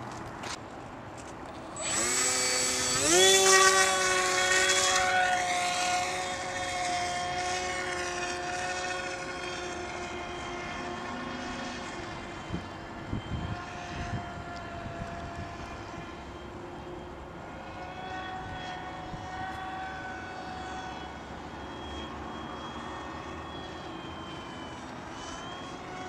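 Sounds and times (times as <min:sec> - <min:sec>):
model airplane motor whine: 0:01.5 - 0:26.0.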